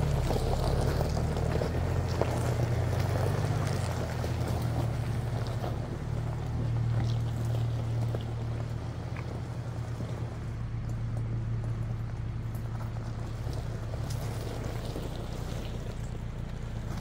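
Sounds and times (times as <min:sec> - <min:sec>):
engine and road drone: 0:00.0 - 0:17.0.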